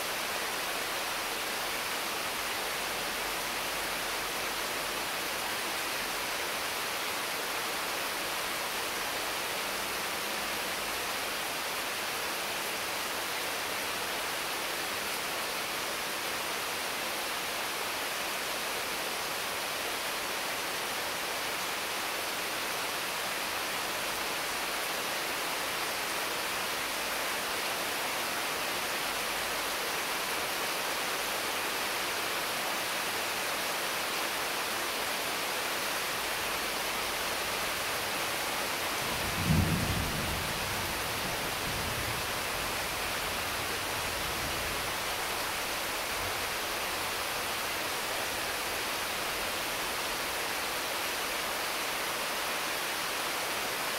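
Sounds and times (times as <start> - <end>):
heavy rain on leaves: 0.0 - 53.9.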